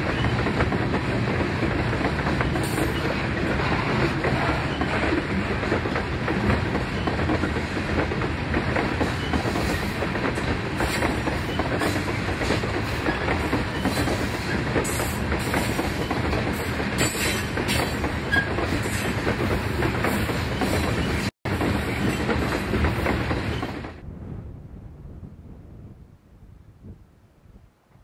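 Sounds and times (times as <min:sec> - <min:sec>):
wheels clicking over rail joints: 0:00.0 - 0:24.0
freight train rumbling: 0:00.0 - 0:27.9.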